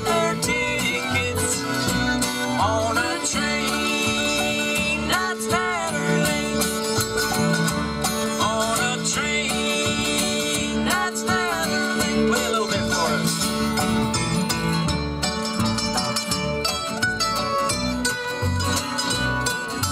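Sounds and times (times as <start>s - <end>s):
banjo picking: 0.0s - 19.9s
bluegrass band playing: 0.0s - 19.9s
fiddle playing swooping slides: 0.0s - 19.9s
guitar picking: 0.0s - 19.9s
upright bass: 0.0s - 19.9s.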